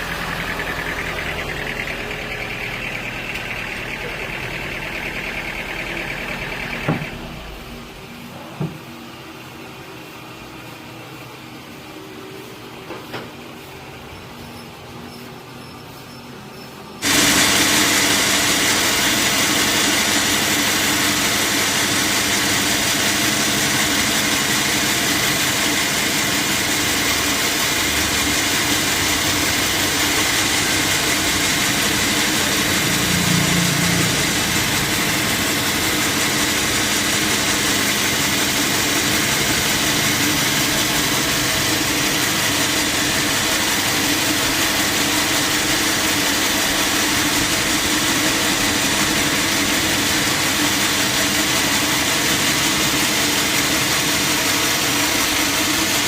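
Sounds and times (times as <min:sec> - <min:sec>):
sawmill machinery drone: 0:00.0 - 0:16.2, 0:16.9 - 0:56.0.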